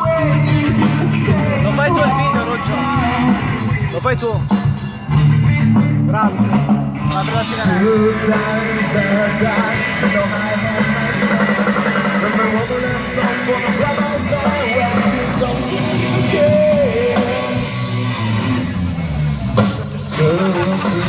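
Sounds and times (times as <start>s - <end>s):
person singing: 0.0s - 4.0s, 5.2s - 18.1s, 20.1s - 21.0s
guitar: 0.0s - 21.0s
rock band playing live: 0.0s - 21.0s.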